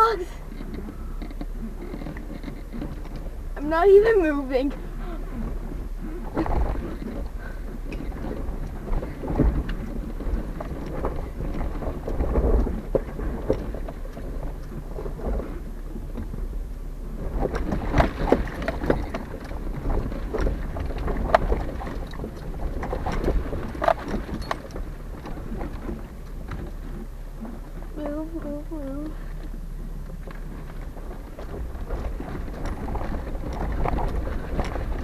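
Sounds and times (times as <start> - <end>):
body and suspension rattling: 0.0 - 35.0
tyres crunching over rocks: 0.0 - 35.0
vehicle engine low rumble: 0.0 - 35.0.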